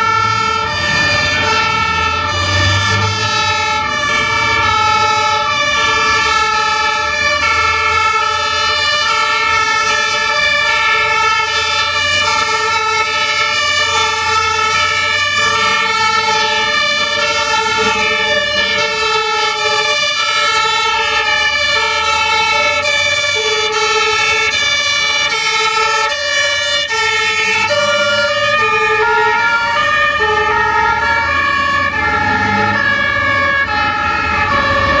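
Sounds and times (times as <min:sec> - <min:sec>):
road traffic rumble: 0:00.0 - 0:35.0
two-tone sirens: 0:00.0 - 0:35.0.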